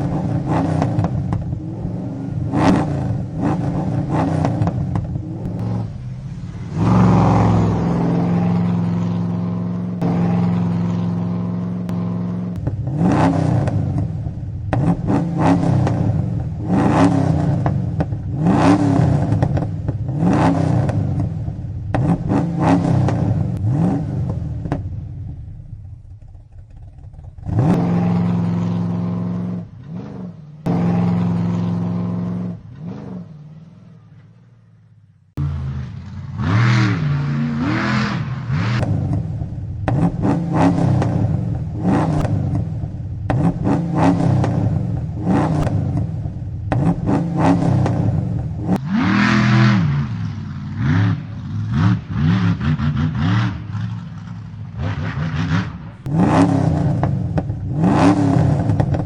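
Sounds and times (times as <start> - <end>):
truck engine revving: 0.0 - 25.0, 26.5 - 34.4, 35.3 - 59.0.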